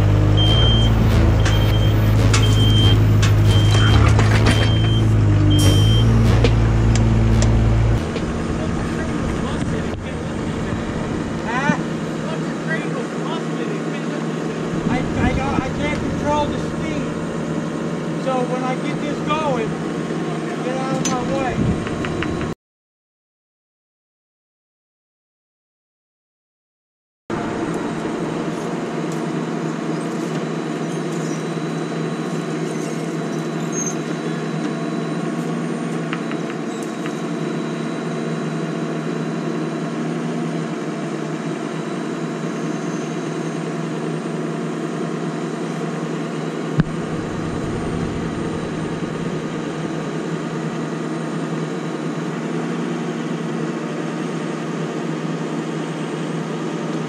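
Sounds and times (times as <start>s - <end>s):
truck engine running: 0.0s - 22.5s, 27.3s - 57.0s.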